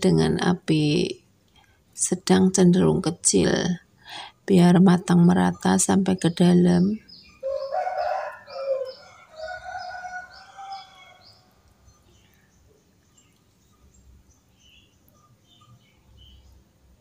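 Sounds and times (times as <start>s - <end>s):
birds chirping: 2.3s - 17.0s.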